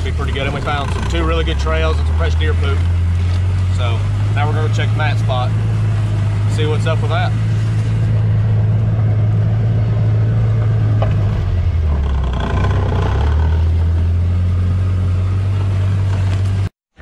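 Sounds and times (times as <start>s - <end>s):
utility vehicle engine running: 0.0s - 16.7s.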